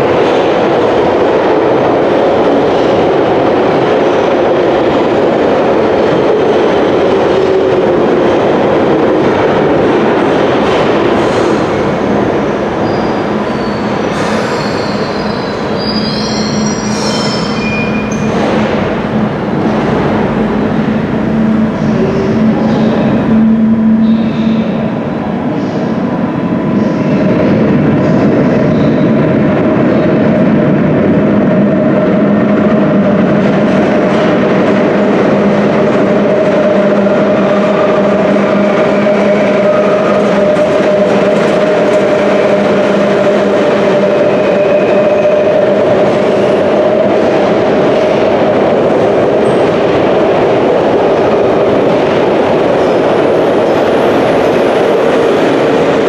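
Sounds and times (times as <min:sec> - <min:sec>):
locomotive drone: 0:00.0 - 0:56.0
wheels clacking on rails: 0:00.0 - 0:56.0.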